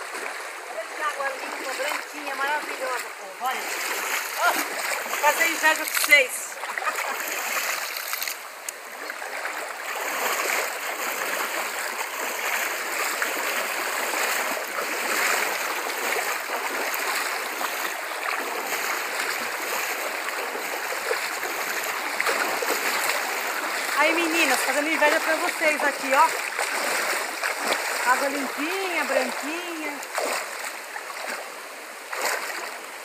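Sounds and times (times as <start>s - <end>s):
legs wading through water: 0.0s - 33.0s
river water running over rocks: 0.0s - 33.0s.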